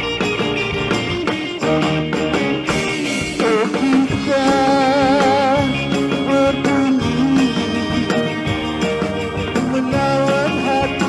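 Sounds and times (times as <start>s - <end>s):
live band playing dance music: 0.0s - 11.0s.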